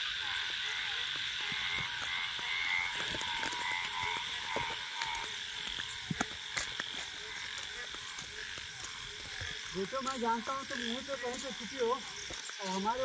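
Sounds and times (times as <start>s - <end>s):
frog calls: 0.0s - 13.0s
insect trill: 0.0s - 13.0s
footsteps crunching on dirt: 0.2s - 13.0s.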